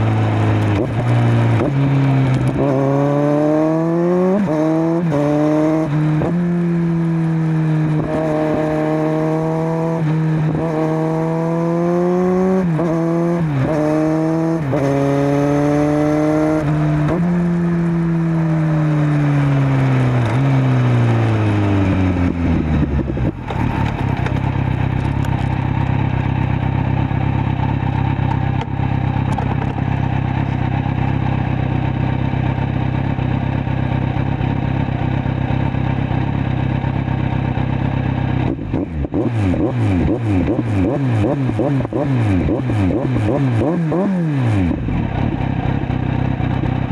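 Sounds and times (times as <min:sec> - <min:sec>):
motorcycle engine revving and idling: 0:00.0 - 0:46.9.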